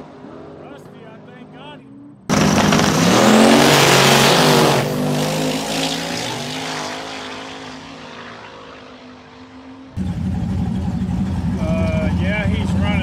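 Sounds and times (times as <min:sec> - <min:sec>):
drag racing cars accelerating: 0:00.0 - 0:13.0.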